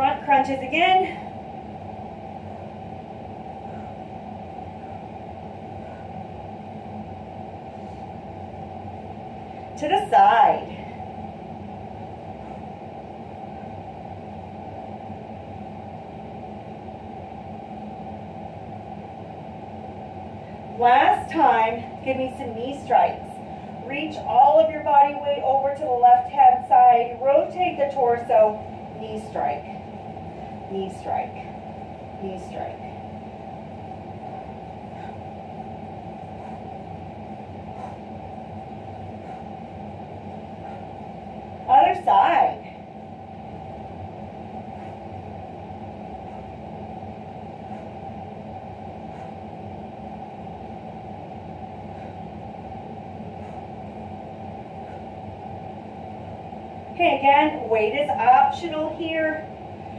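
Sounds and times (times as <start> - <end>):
steady background hum and hiss: 0.0 - 59.9.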